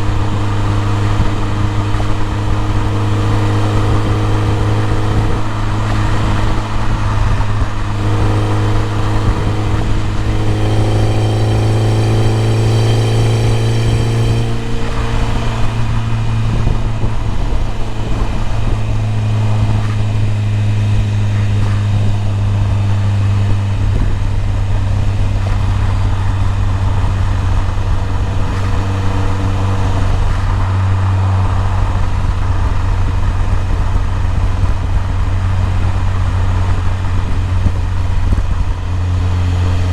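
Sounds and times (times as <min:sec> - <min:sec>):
car engine pulling under load: 0:00.0 - 0:39.9
constant low drone: 0:00.0 - 0:39.9.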